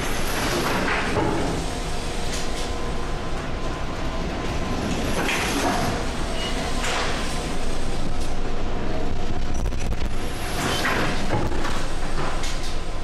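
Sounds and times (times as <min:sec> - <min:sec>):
ship engine rumble: 0:00.0 - 0:13.0
wind: 0:00.0 - 0:13.0.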